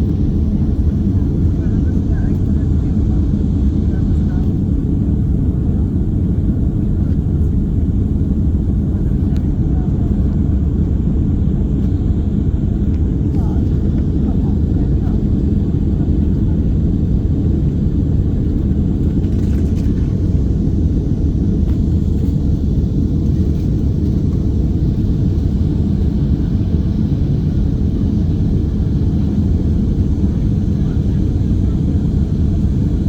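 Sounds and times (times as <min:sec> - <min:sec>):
airflow in cabin: 0:00.0 - 0:33.0
airliner jet engines rumbling: 0:00.0 - 0:33.0.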